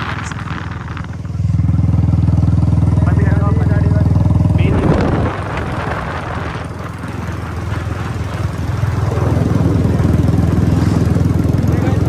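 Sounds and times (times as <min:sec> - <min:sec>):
wind rushing on microphone: 0:00.0 - 0:02.2, 0:03.0 - 0:12.0
motorcycle engine running: 0:00.0 - 0:12.0.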